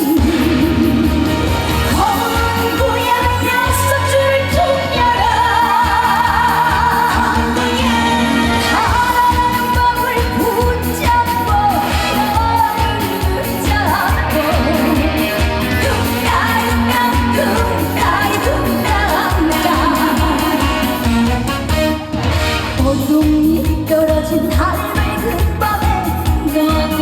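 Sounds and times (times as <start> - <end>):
live band music with steady beat: 0.0 - 27.0.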